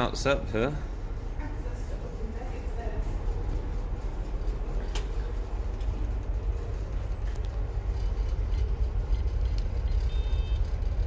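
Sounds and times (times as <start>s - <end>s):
ship engines rumbling: 0.0s - 11.0s.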